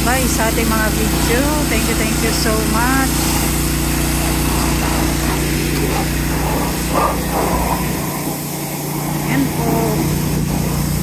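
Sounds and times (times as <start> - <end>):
pressure washer engine running: 0.0 - 11.0
water spray hissing: 0.0 - 11.0.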